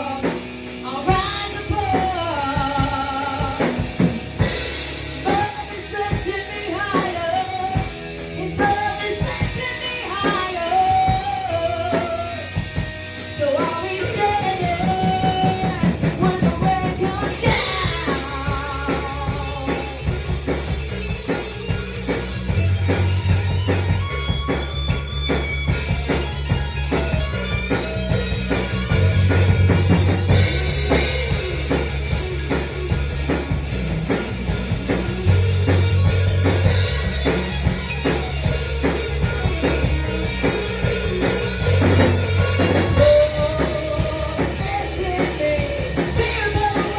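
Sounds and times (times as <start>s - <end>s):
drum kit beat: 0.0s - 46.9s
guitar and bass: 0.0s - 46.9s.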